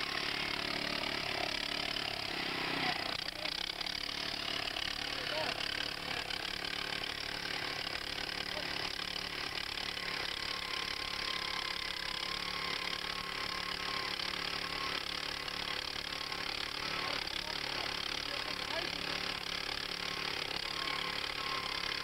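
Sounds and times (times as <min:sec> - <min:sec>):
small gasoline engine under load: 0:00.0 - 0:22.0.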